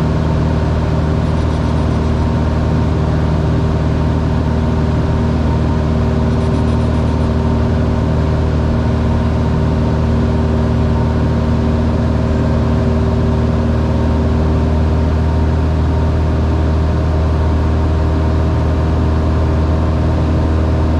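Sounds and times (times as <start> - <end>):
light aircraft engine droning: 0.0 - 20.9.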